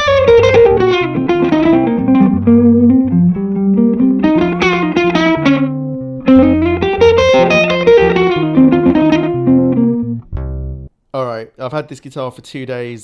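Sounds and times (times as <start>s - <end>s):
electric guitar lead melody: 0.0s - 10.9s
steady bass line: 0.0s - 10.9s.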